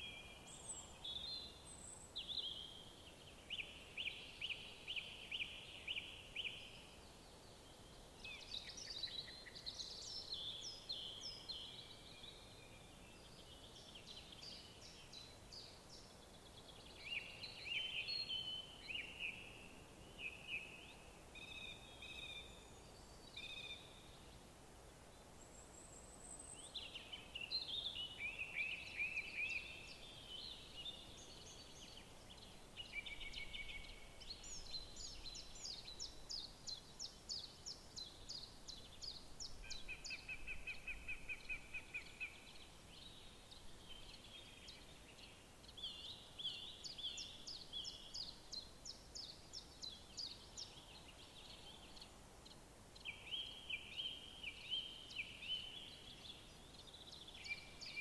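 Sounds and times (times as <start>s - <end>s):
songbirds singing trills: 0.0s - 24.3s, 25.4s - 58.0s
faint steady background noise: 0.0s - 58.0s.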